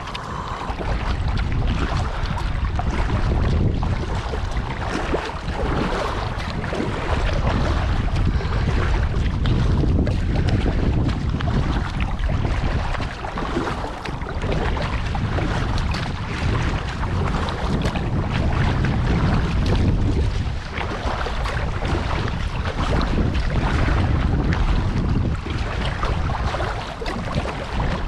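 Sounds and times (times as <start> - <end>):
water splashing around kayak: 0.0 - 28.0
wind buffeting microphone: 0.0 - 28.0.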